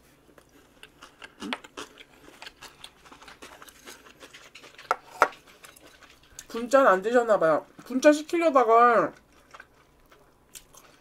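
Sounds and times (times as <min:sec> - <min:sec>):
chewing and crunching: 0:00.0 - 0:11.0.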